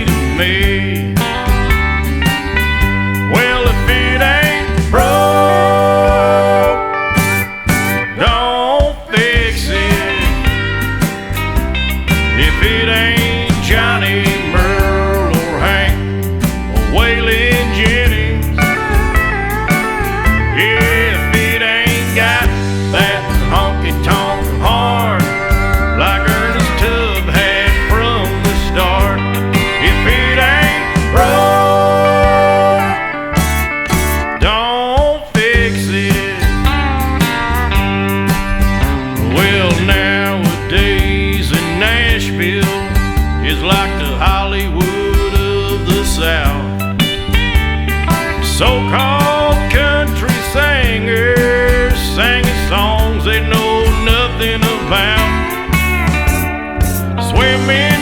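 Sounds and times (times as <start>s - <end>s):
country band instrumental: 0.0s - 58.0s
lead guitar bending notes: 0.0s - 58.0s.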